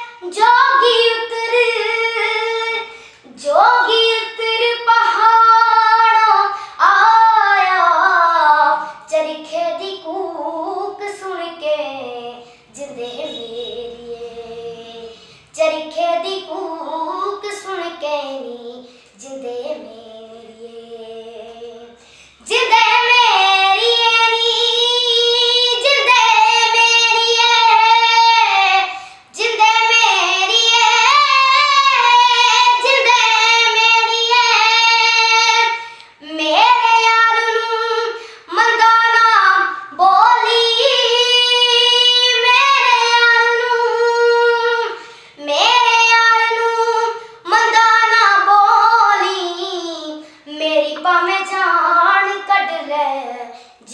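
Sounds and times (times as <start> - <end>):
girl singing unaccompanied: 0.0 - 53.9.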